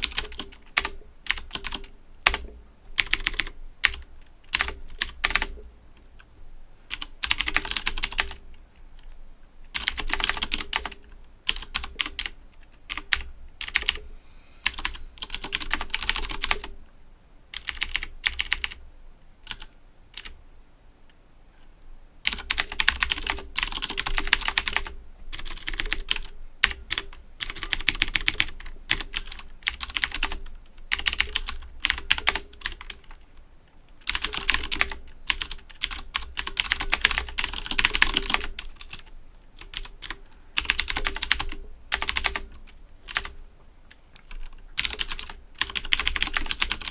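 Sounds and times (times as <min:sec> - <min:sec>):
clicky mechanical keyboard typing: 0:00.0 - 0:06.3, 0:06.9 - 0:08.4, 0:09.0 - 0:14.0, 0:14.6 - 0:16.8, 0:17.5 - 0:18.8, 0:19.4 - 0:20.4, 0:22.2 - 0:33.2, 0:33.9 - 0:46.9.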